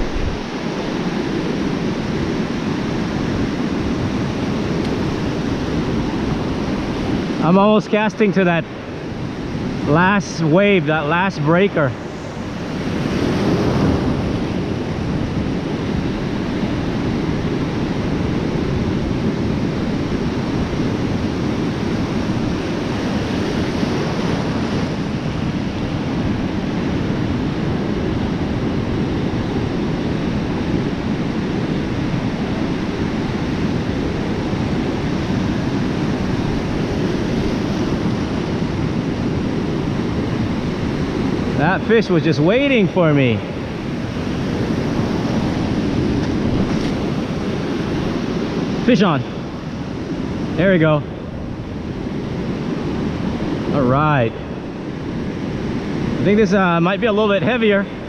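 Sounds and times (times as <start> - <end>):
ocean waves breaking: 0.0 - 58.0
wind rumbling on microphone: 0.0 - 58.0.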